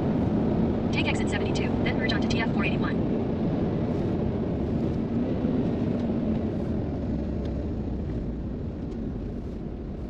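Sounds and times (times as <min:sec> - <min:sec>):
road and engine noise in car: 0:00.0 - 0:10.0.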